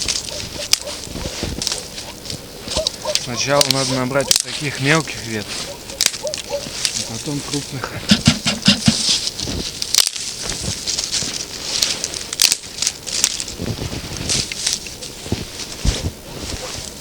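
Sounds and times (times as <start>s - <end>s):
branches snapping: 0.0s - 17.0s
twigs rustling: 0.0s - 17.0s.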